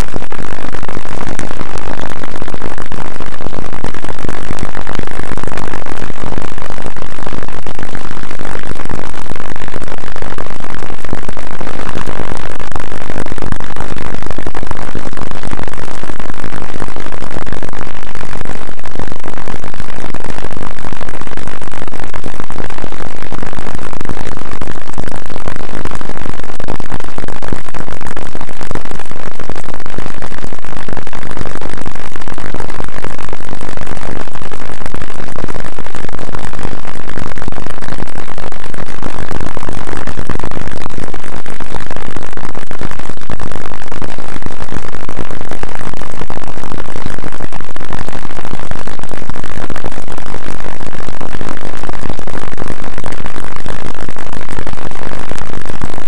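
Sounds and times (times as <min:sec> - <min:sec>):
heavily distorted noise: 0:00.0 - 0:56.0.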